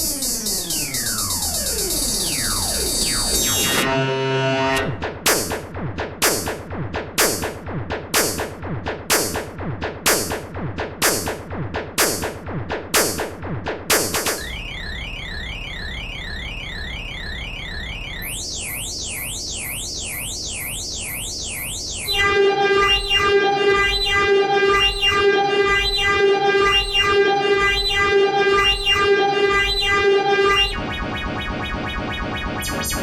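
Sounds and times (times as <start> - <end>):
dense synthesizer notes: 0.0 - 33.0.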